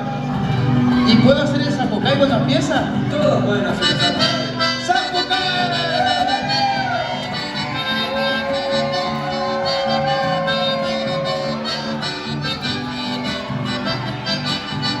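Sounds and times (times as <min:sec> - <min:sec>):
accordion playing: 0:00.0 - 0:15.0
rhythmic bass accompaniment: 0:00.0 - 0:15.0.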